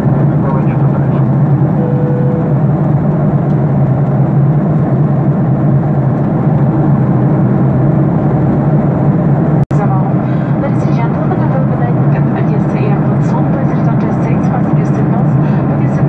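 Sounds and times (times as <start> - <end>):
jet engines droning: 0.0 - 16.0
low hum: 0.0 - 16.0.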